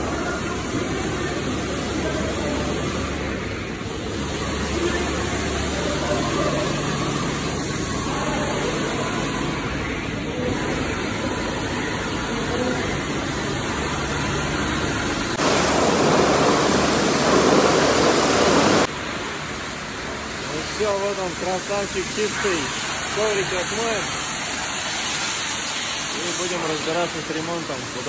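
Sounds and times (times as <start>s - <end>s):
water spraying hiss: 0.0s - 9.6s, 12.3s - 28.0s
high-pressure washer jet: 0.0s - 28.0s.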